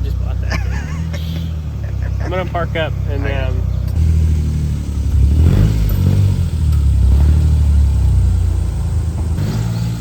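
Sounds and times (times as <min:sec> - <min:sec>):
car engine at low revs: 0:00.0 - 0:10.0.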